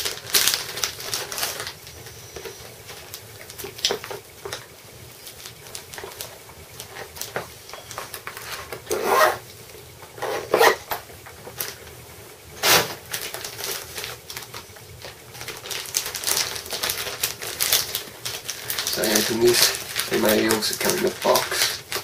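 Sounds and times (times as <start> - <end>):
plastic and cardboard rustling: 0.0 - 9.4, 12.6 - 22.0.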